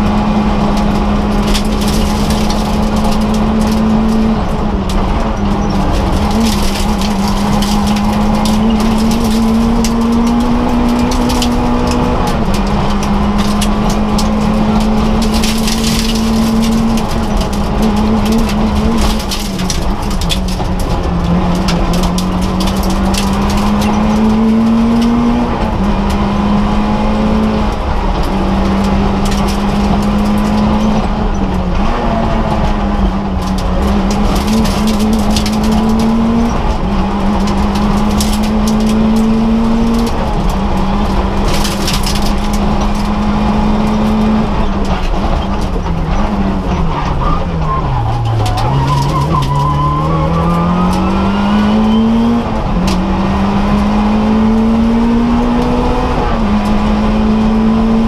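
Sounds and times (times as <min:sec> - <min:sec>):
car engine revving hard: 0:00.0 - 0:58.0
car knocks and rattles: 0:00.0 - 0:58.0.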